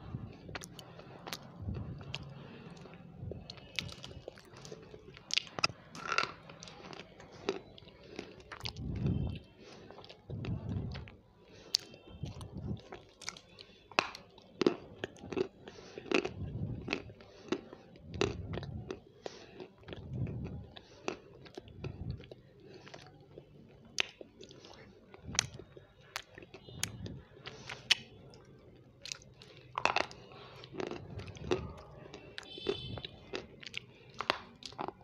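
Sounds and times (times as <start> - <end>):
person chewing crunchy food: 0.0 - 35.0.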